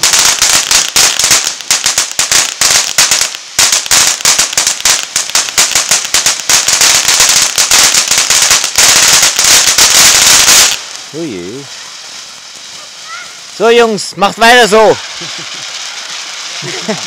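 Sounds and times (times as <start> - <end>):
firework crackling: 0.0 - 17.0.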